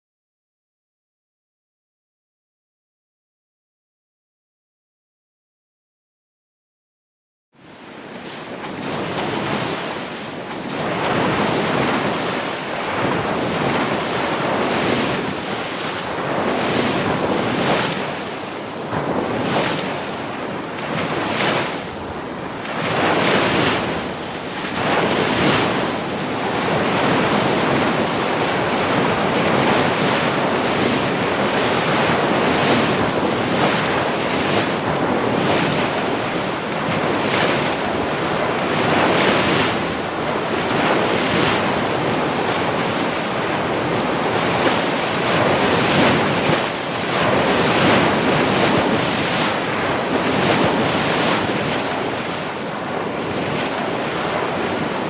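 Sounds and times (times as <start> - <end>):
ocean waves breaking: 7.6 - 55.0.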